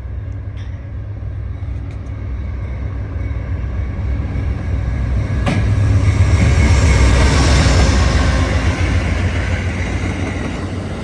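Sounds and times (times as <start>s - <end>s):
diesel train passing rumble: 0.0s - 11.0s.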